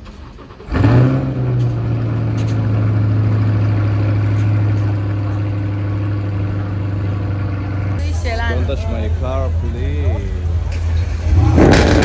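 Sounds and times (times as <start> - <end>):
car engine starting and idling: 0.0 - 12.0.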